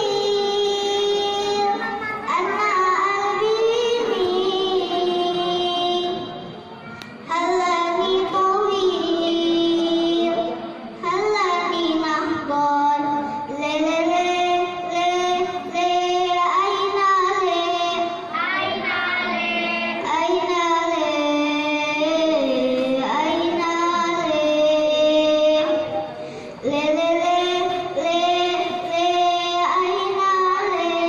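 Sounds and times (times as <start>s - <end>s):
children singing together: 0.0s - 31.0s.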